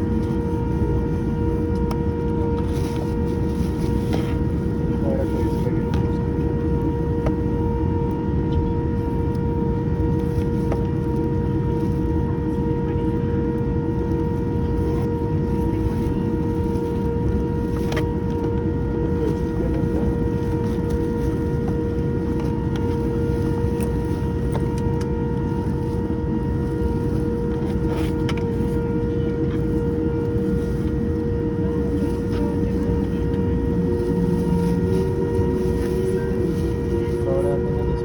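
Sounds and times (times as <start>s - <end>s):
jet engine rumble in cabin: 0.0s - 38.0s.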